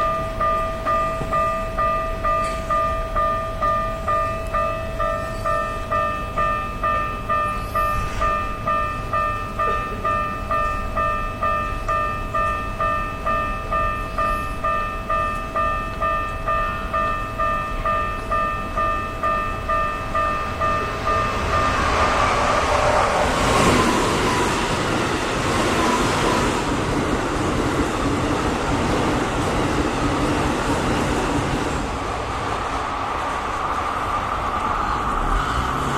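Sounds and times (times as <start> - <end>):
train rumble and rail noise: 0.0 - 35.9.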